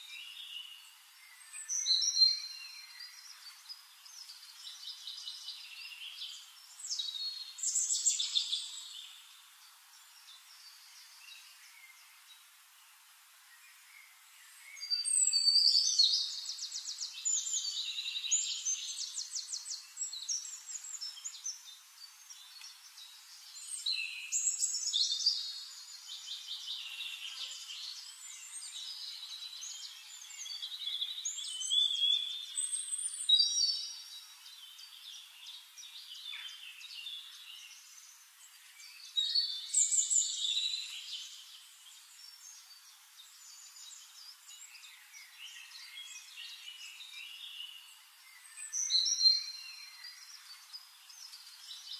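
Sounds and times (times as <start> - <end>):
small songbirds singing: 0.0 - 51.9.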